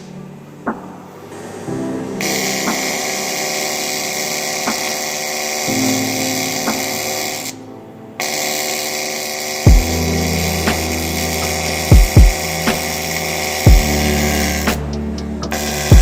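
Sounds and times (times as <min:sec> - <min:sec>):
welding arc buzzing hiss: 0:01.4 - 0:07.6, 0:08.2 - 0:16.0.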